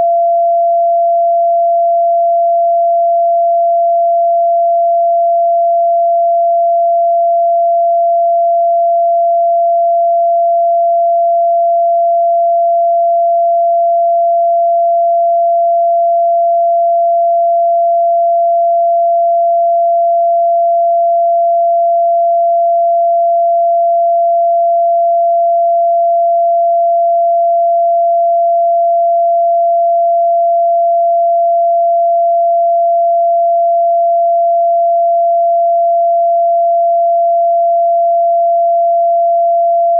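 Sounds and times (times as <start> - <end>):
pure sine tone: 0.0 - 39.9.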